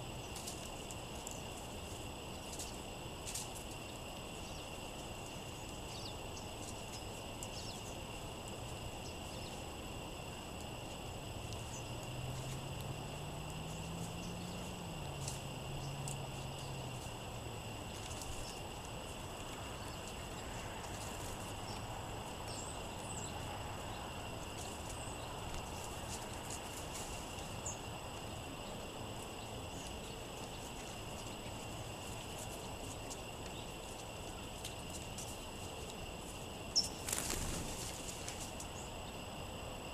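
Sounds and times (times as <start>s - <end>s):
faint low hum: 0.0s - 39.9s
songbirds chipping: 0.0s - 39.9s
wind: 0.0s - 39.9s.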